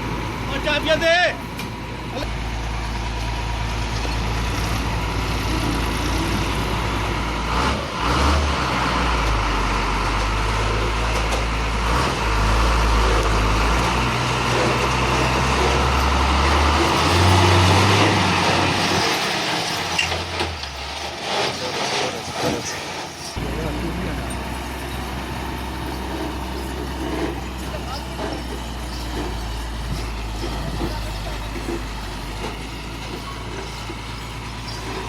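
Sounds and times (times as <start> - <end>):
heavy diesel engine under load: 0.0 - 35.0.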